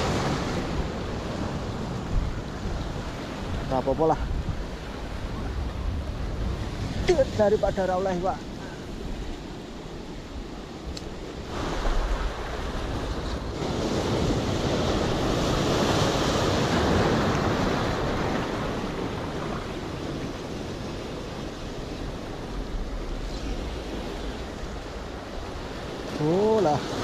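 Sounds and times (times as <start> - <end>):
wind buffeting microphone: 0.0 - 26.2
surf washing over boulders: 0.0 - 27.0.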